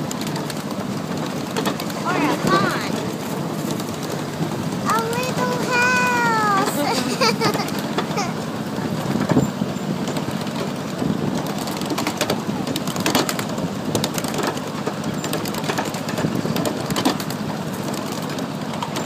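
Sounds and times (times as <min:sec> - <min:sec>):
track clicks and clacks: 0:00.0 - 0:19.0
train wheels rumbling on rails: 0:00.0 - 0:19.0.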